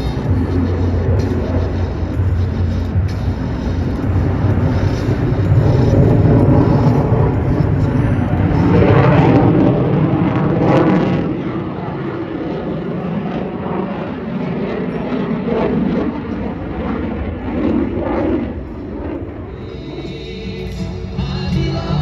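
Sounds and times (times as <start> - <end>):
plane engine flying past: 0.0 - 22.0.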